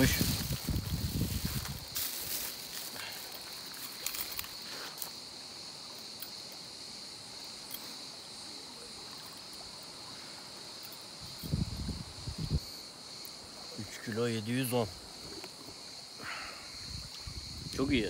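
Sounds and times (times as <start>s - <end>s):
insects shrilling: 0.0s - 18.0s.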